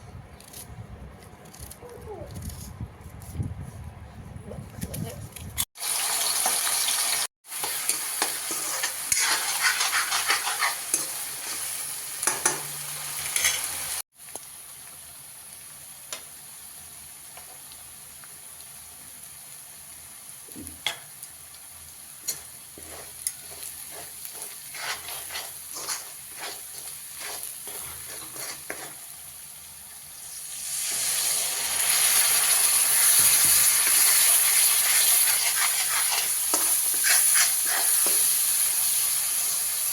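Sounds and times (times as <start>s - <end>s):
okra sizzling in oil: 5.7s - 39.9s.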